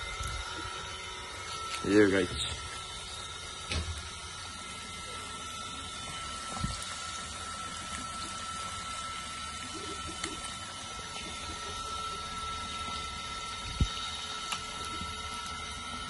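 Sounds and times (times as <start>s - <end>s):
meat sizzling in hot oil: 2.6s - 16.0s.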